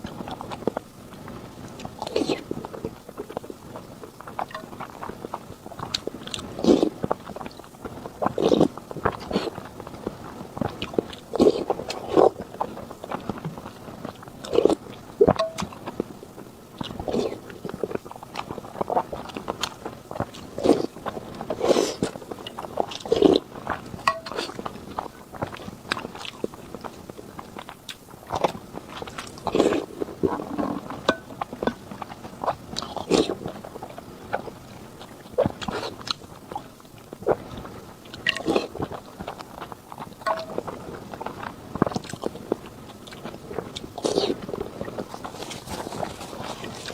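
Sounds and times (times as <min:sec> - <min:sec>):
quiet chewing: 0:00.0 - 0:46.9.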